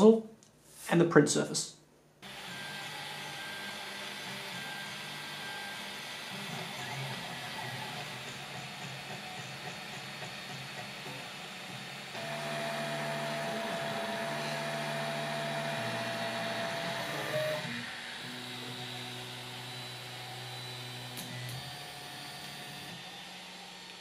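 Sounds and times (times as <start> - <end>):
fans whirring: 2.2 - 24.0
stepper motor tones: 2.2 - 24.0.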